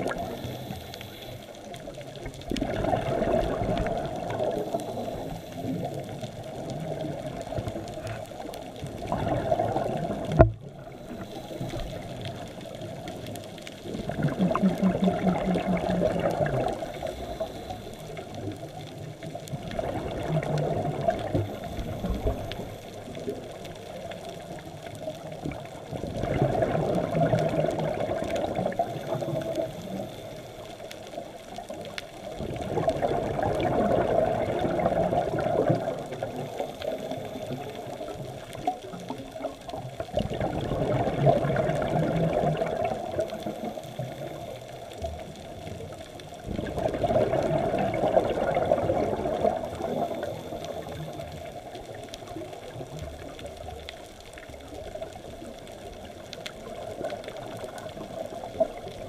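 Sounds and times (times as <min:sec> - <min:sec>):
scuba regulator bubbles: 0:00.0 - 0:59.0.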